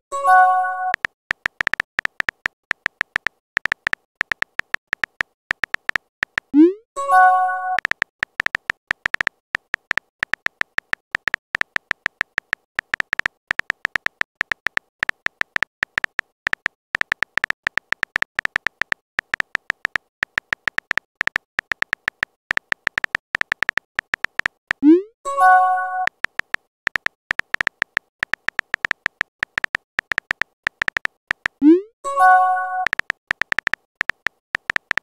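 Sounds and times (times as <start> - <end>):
phone keyboard typing clicks: 0.2 - 35.0.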